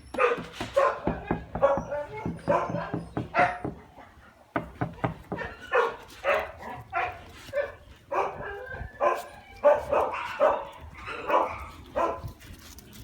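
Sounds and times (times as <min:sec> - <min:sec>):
dog barking: 0:00.2 - 0:04.0, 0:05.0 - 0:12.3.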